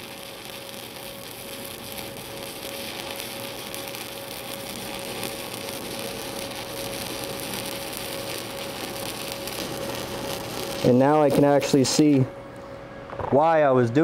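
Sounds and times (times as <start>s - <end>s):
welding arc crackling sizzle: 0.0s - 12.3s
faint hum: 0.0s - 14.0s.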